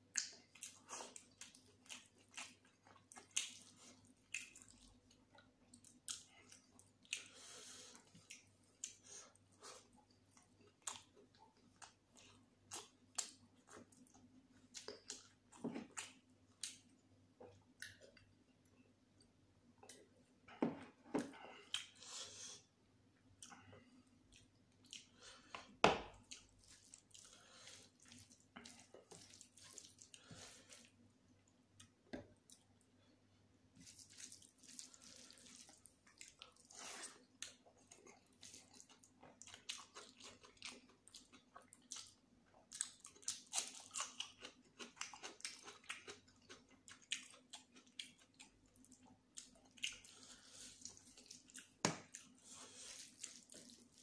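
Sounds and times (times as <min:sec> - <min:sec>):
chewing and wet mouth sounds: 0:00.0 - 0:54.0.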